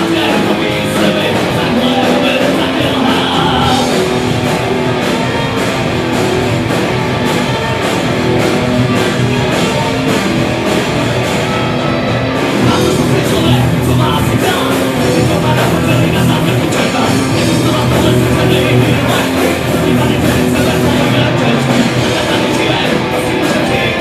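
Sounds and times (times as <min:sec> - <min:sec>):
drum kit with cymbal hits: 0:00.0 - 0:24.0
electric guitars: 0:00.0 - 0:24.0.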